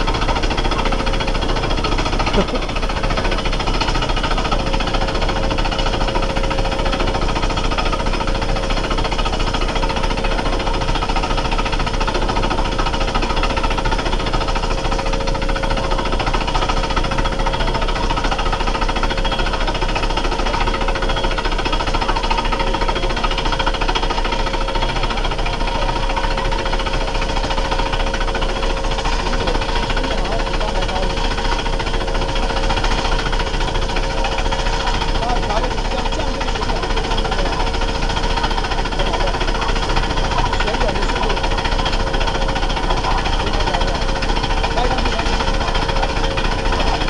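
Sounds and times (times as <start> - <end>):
rock drill hammering into stone: 0.0 - 47.0
steady hum: 0.0 - 47.0.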